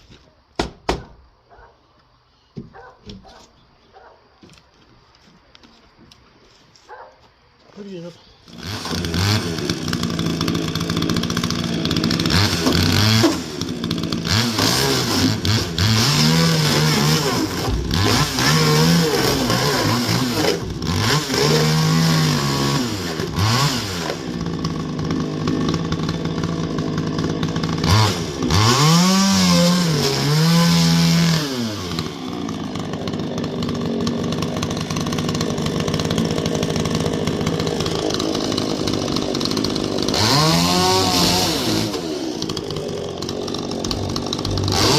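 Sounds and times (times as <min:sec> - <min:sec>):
chainsaw engine revving: 0:08.3 - 0:44.9.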